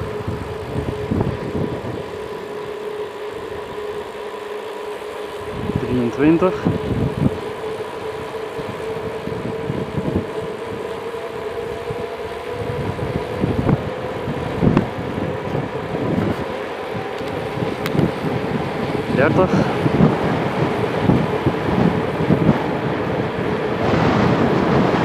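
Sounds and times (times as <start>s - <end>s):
wind buffeting microphone: 0.0s - 4.3s, 5.1s - 25.0s
bike tyre noise on road: 0.0s - 25.0s
steady whine: 0.0s - 25.0s.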